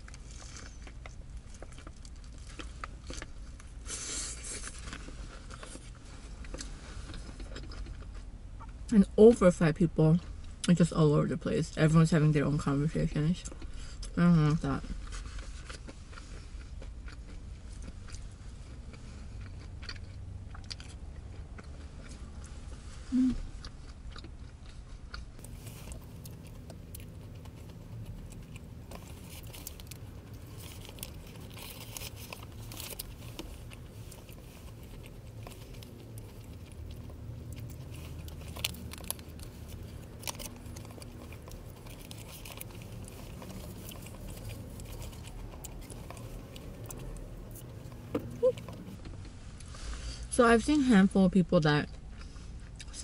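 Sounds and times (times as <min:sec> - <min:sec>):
person chewing a burger: 0:00.0 - 0:08.9, 0:13.4 - 0:50.2, 0:51.9 - 0:53.0
steady low hum: 0:00.0 - 0:53.0.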